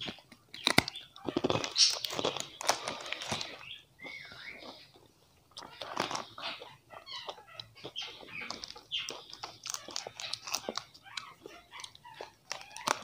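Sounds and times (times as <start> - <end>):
chewing crunchy snacks: 0.0 - 13.0.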